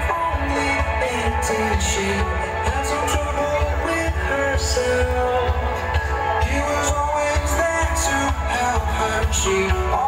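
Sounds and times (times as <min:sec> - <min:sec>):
person singing: 0:00.0 - 0:10.0.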